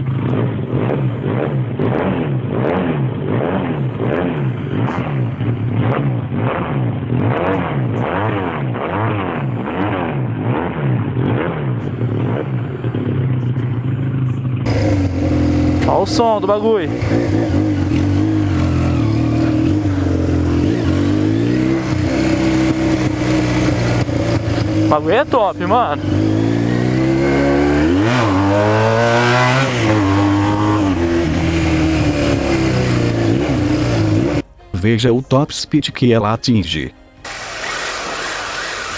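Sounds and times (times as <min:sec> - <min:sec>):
motorcycle engine revving: 0:00.0 - 0:34.5, 0:37.2 - 0:38.9.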